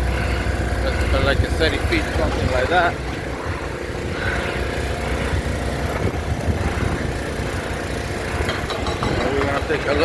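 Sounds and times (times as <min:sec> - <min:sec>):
construction equipment engine rumble: 0:00.0 - 0:10.0.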